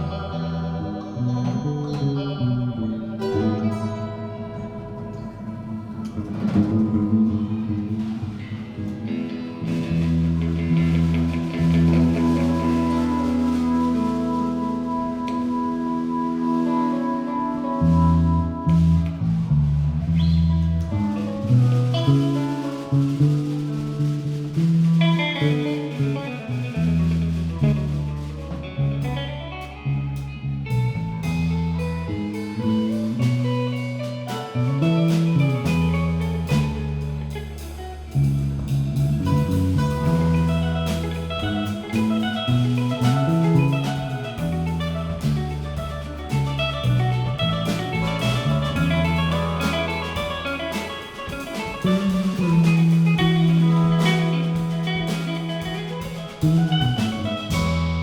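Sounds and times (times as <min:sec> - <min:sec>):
deep bass line: 0:00.0 - 0:58.0
guitar: 0:00.0 - 0:58.0
live band playing: 0:00.0 - 0:58.0.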